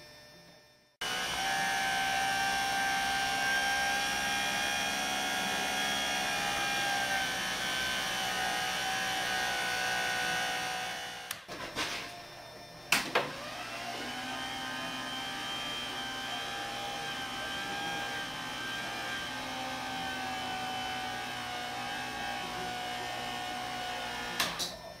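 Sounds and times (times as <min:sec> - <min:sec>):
motor whine: 0:00.0 - 0:11.5, 0:12.1 - 0:25.0.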